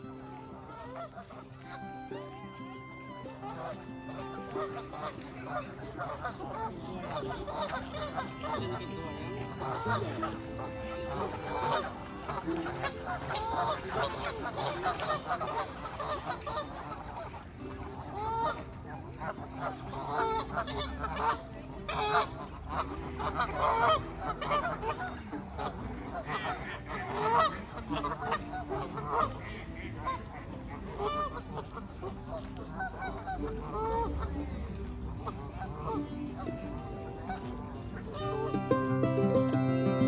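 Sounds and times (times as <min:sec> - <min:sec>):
geese honking: 0:00.0 - 0:40.0.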